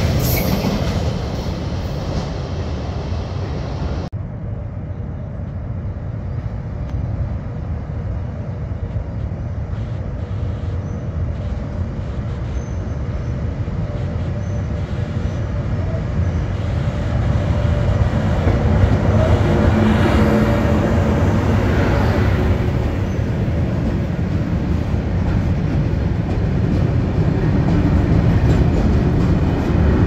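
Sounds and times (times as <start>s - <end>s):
freight train low rumble: 0.0s - 30.0s.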